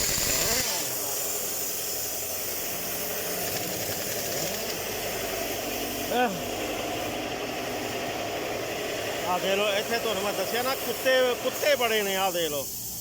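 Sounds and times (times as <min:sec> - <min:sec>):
engine running: 0:00.0 - 0:12.5
compressed air hissing: 0:00.0 - 0:13.0.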